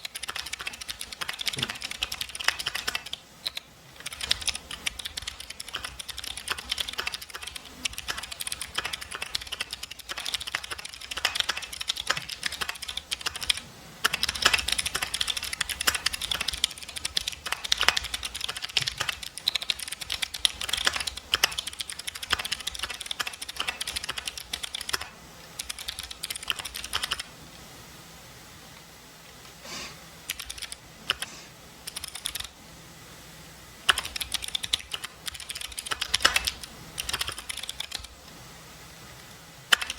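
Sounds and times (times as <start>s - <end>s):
typing on mechanical keyboard: 0.0s - 27.3s, 30.3s - 32.6s, 33.9s - 38.2s, 39.7s - 39.9s.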